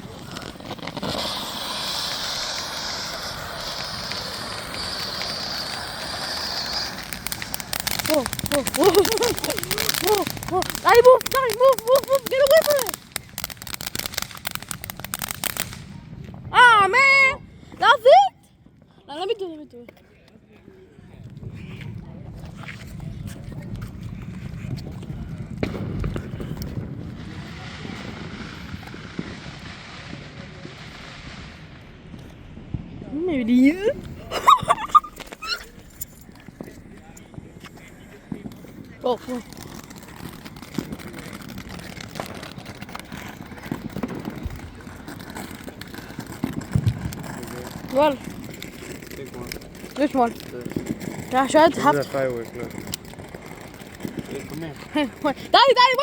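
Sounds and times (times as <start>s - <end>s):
firework fountain hissing: 0.0s - 18.3s, 21.0s - 56.0s.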